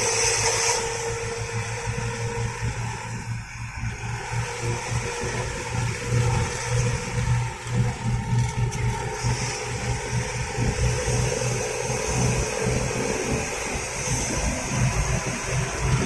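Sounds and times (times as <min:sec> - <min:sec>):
bus exhaust growling: 0:00.0 - 0:16.0
road noise: 0:00.0 - 0:16.0.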